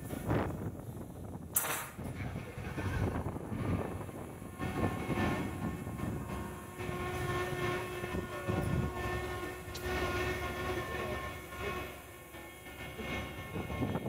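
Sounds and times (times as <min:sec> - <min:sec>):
machinery whine over rumble: 0:00.0 - 0:14.0.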